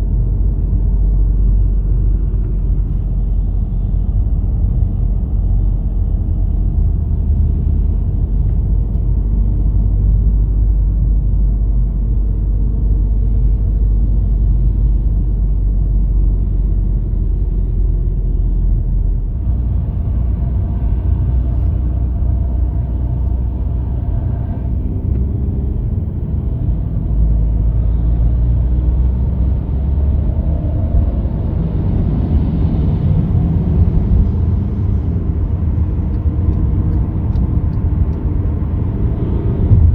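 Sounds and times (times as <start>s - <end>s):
motor vehicle rumbling: 0.0s - 39.9s.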